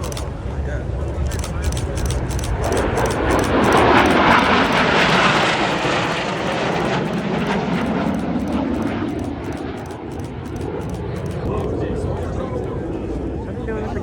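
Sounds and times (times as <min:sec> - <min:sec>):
airplane flying past: 0:00.0 - 0:14.0.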